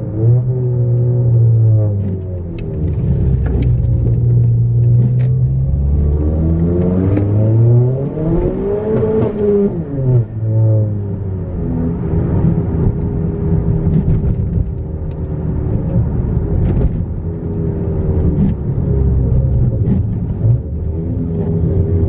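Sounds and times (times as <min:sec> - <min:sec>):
loud car exhaust rumble: 0:00.0 - 0:22.0.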